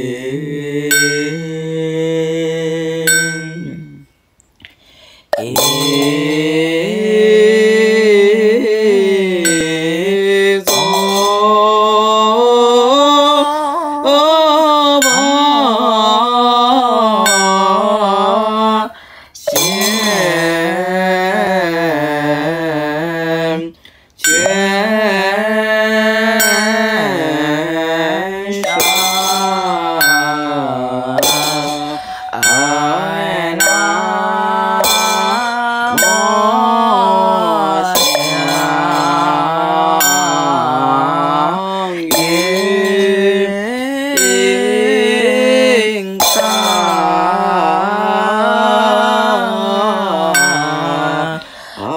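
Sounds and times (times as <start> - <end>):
slow melodic chanting: 0.0 - 51.9.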